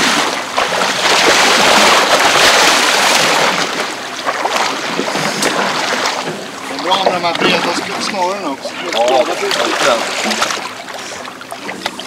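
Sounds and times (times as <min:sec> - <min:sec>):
sea water rushing: 0:00.0 - 0:12.0.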